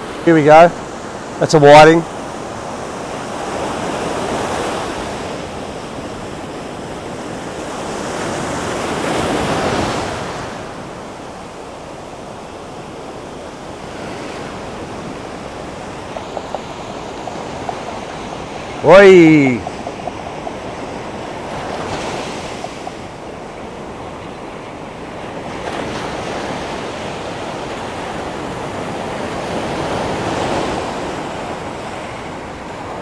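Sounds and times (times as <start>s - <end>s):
ocean surf breaking: 0.0s - 33.0s.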